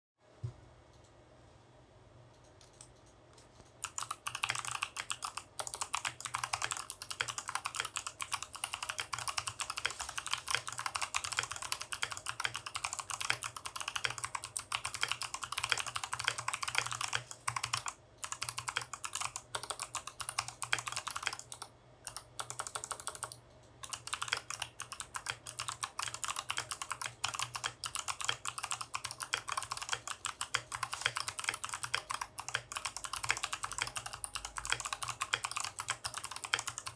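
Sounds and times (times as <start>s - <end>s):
mechanical keyboard fast typing: 3.8s - 36.9s.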